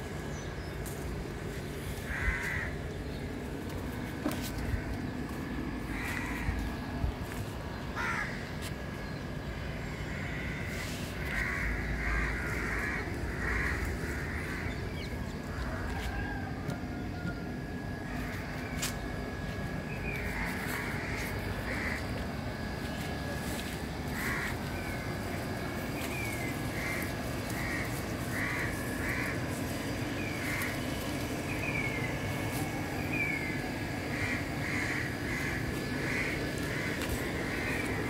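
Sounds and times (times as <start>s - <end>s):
crows cawing: 0.4s - 8.8s, 9.8s - 38.0s.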